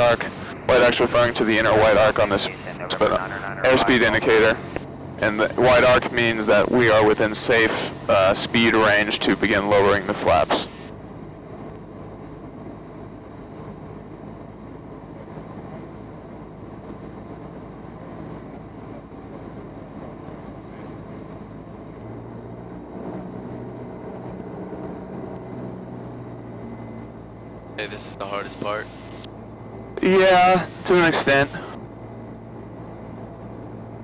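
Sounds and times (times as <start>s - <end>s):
light aircraft engine droning: 0.0s - 34.0s.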